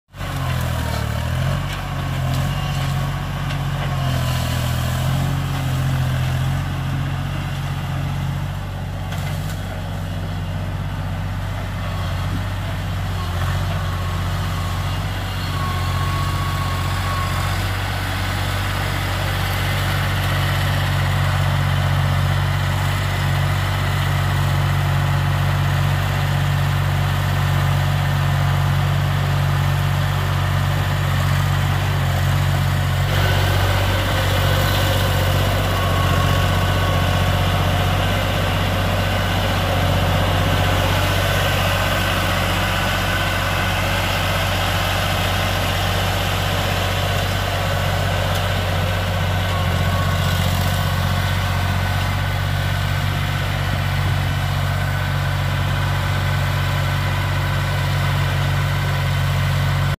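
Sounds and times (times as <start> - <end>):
engine humming: 0.1 - 60.0.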